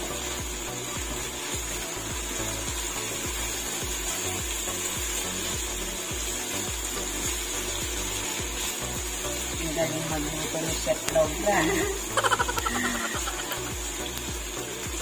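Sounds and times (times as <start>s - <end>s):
meat sizzling: 0.0s - 15.0s.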